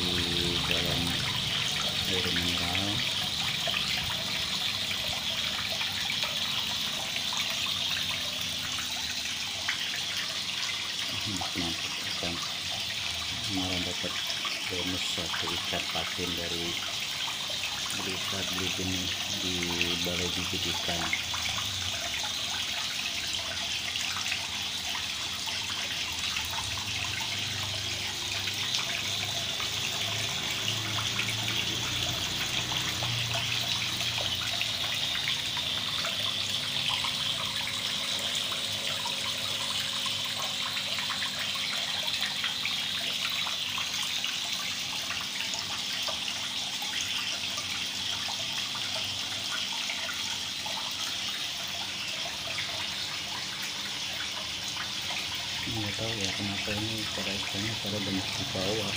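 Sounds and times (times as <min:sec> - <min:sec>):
water pouring into pond: 0:00.0 - 0:58.9.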